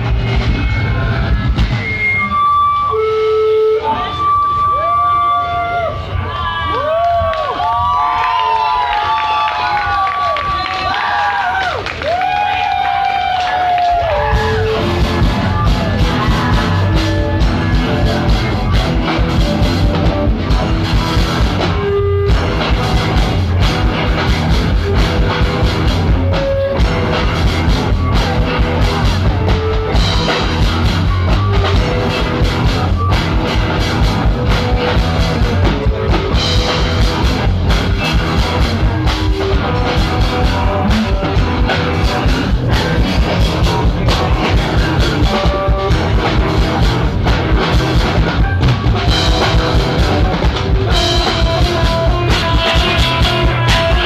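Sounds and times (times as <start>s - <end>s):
drum kit beat: 0.0s - 4.9s, 11.6s - 54.0s
live rock band: 0.0s - 54.0s.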